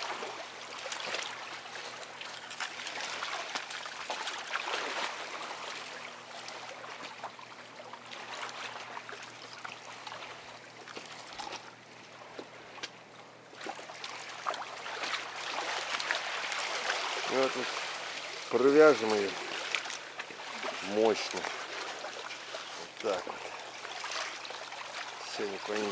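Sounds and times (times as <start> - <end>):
water splashing against boat: 0.0 - 25.9.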